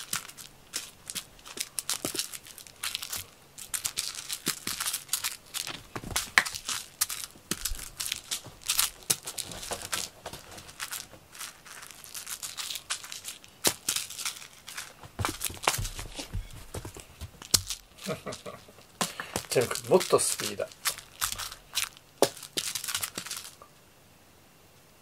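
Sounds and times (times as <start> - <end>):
toy scratching over fabric: 0.0 - 18.4, 19.4 - 23.6.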